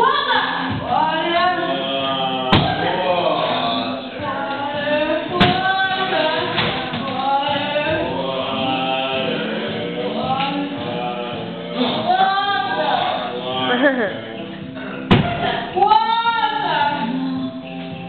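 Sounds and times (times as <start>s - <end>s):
voices singing with music: 0.0s - 18.0s.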